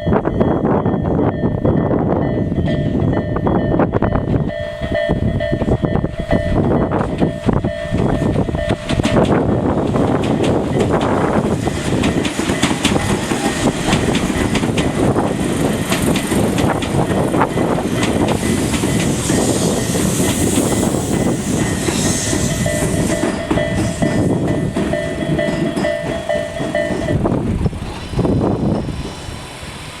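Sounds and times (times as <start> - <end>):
crossing warning bell ringing: 0.0 - 30.0
train wheels clattering over rail joints: 4.9 - 29.1.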